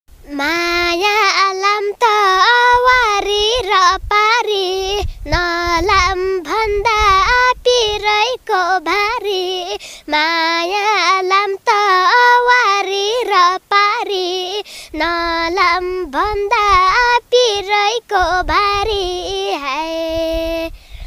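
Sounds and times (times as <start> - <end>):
girl singing solo: 0.2 - 21.0.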